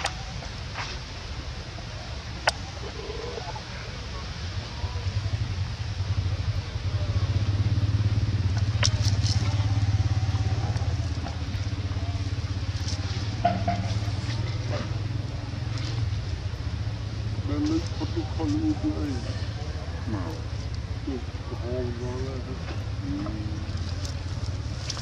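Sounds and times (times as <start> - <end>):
engine pulsing rumble: 0.0 - 25.0.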